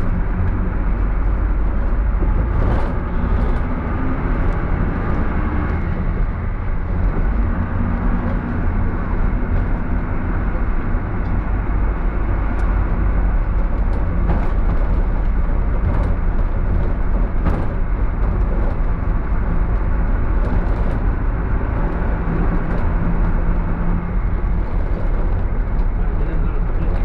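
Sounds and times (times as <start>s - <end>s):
minibus engine rumble: 0.0s - 27.0s.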